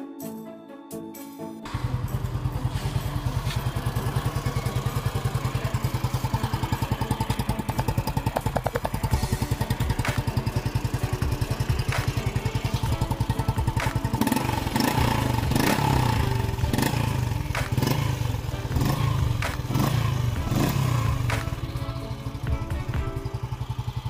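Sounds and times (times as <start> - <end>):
motorcycle engine idling: 1.7 - 24.0.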